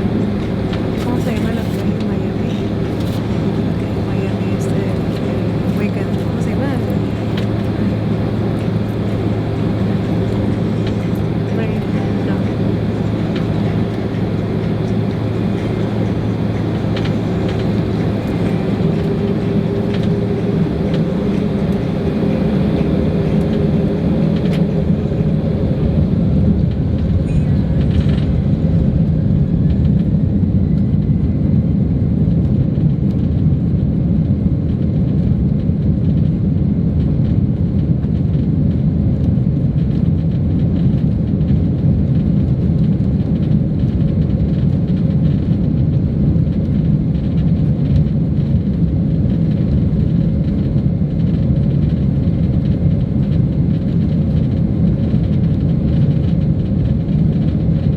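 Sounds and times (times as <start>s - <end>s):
jet engines rumbling at takeoff: 0.0s - 57.9s.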